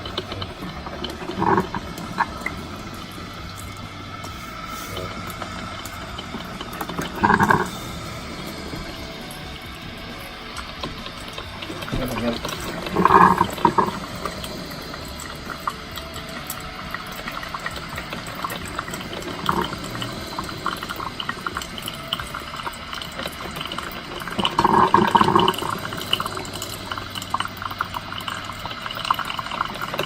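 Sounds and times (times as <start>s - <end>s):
coffee maker gurgling and sputtering: 0.0s - 30.0s.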